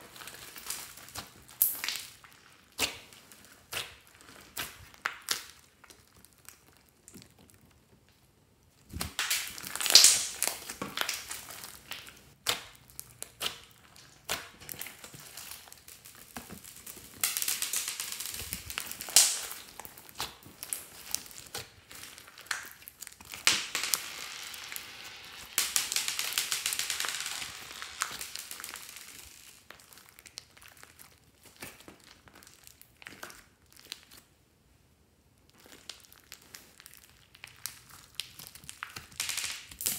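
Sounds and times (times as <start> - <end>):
hands squeezing crackly slime: 0.0 - 34.4, 35.4 - 39.9.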